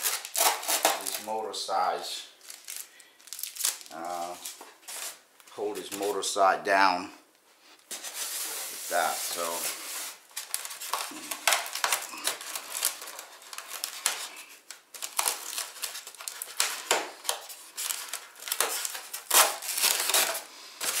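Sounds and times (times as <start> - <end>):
packaging crinkling and scraping: 0.0 - 1.3, 2.4 - 5.2, 7.8 - 21.0.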